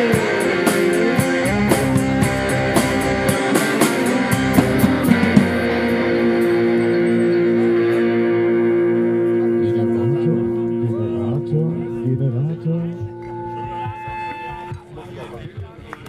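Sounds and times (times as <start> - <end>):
held guitar chord ringing: 0.0 - 15.7
live rock band playing: 0.0 - 15.9.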